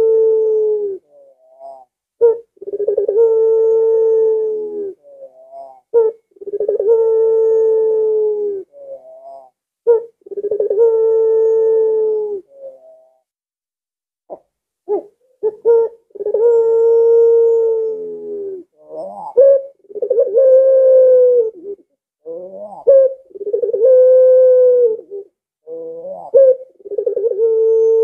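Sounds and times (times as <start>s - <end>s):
dove cooing: 0.0s - 13.2s, 14.3s - 28.0s.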